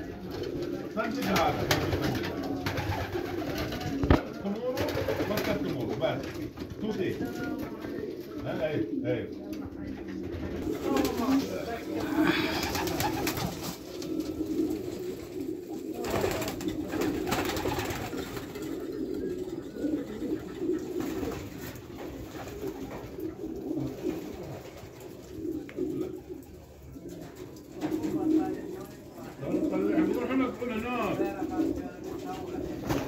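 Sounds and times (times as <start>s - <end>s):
pigeons cooing: 0.0s - 33.0s
wings rustling: 0.2s - 8.4s, 9.9s - 33.0s.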